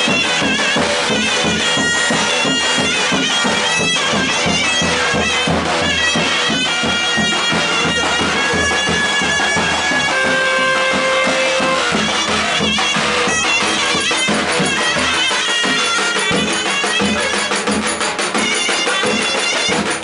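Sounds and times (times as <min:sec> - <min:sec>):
drum beating steadily: 0:00.0 - 0:20.0
shrill reed wind instrument: 0:00.0 - 0:20.0.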